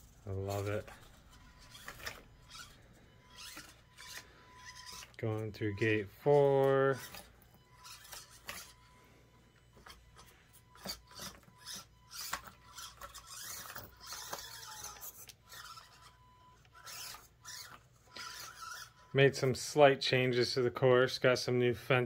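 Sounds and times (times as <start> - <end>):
tyres and chassis scraping: 0.0 - 19.8
faint high whine: 0.0 - 22.0.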